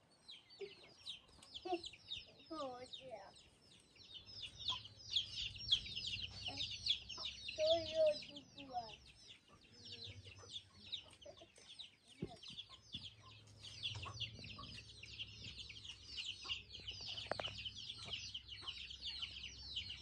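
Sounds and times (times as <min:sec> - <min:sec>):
chicks peeping: 0:00.2 - 0:20.0.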